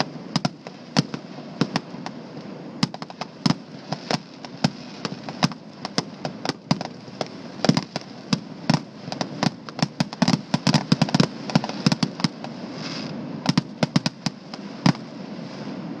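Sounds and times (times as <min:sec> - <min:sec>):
fireworks bangs and pops: 0:00.0 - 0:15.2
firework hiss: 0:00.0 - 0:16.0.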